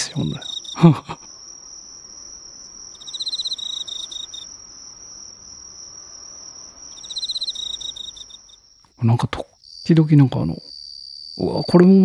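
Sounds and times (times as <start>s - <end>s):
crickets trilling: 0.0s - 12.0s
rapid pulsed cricket chirping: 0.0s - 12.0s.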